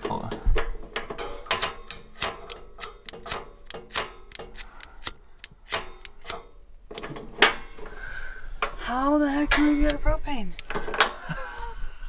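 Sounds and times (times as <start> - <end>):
stove igniter clicking: 0.0 - 7.9, 9.5 - 11.3.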